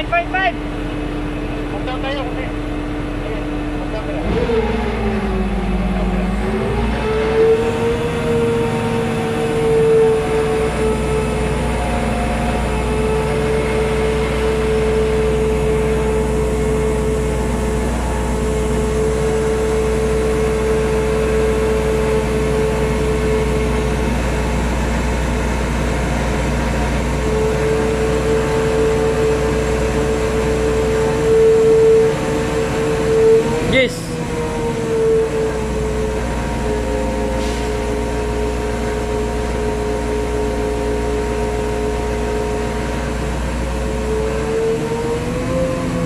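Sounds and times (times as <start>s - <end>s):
crane diesel engine running: 0.0s - 46.0s
high whine: 0.0s - 46.0s.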